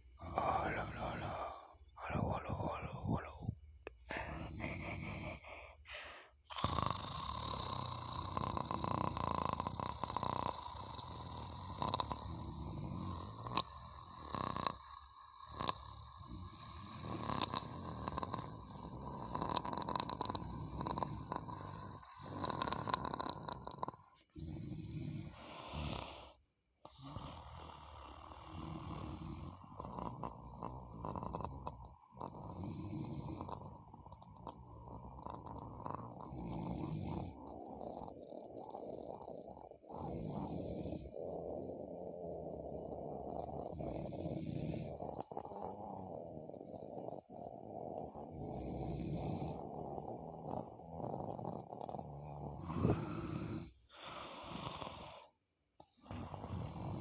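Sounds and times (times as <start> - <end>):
person snoring: 0.0 - 57.0.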